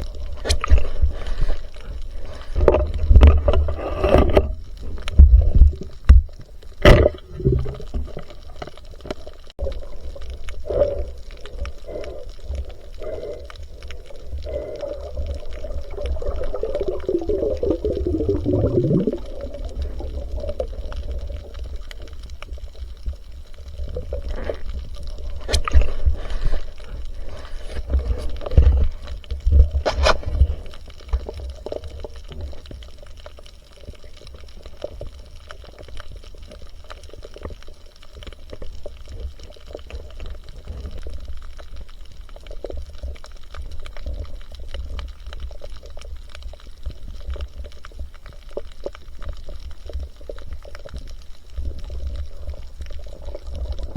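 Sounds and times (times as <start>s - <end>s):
constant low rumble: 0.0s - 53.9s
water gurgling and sloshing: 0.0s - 53.9s.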